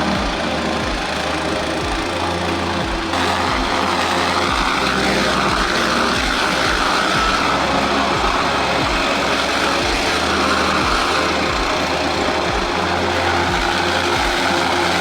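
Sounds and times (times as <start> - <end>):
motor-driven blower humming: 0.0 - 15.0.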